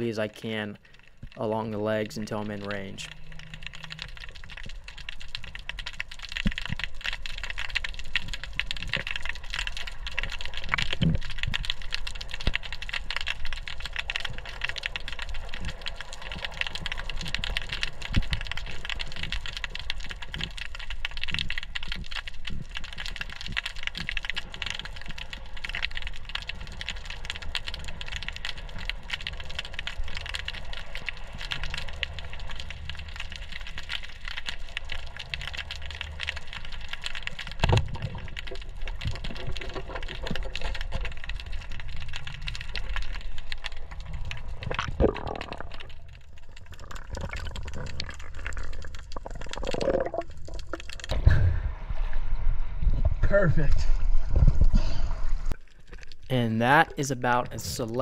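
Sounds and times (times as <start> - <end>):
underwater crackling clicks: 0.8 - 51.2, 55.5 - 56.3
low underwater rumble: 2.2 - 56.2.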